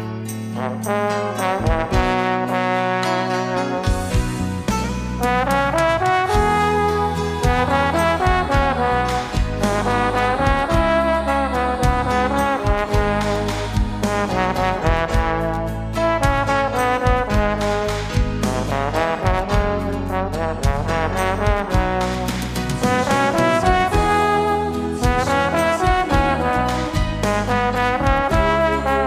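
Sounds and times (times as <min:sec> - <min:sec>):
instrumental pop music: 0:00.0 - 0:29.0.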